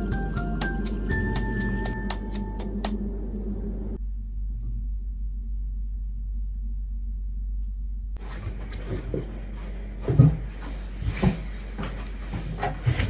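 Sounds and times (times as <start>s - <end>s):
low muffled hum: 0.0s - 13.0s.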